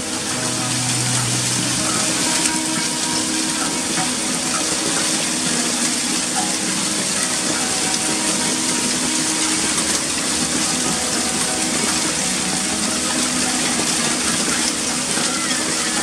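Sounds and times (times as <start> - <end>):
hail and heavy rain on roofs: 0.0 - 16.0.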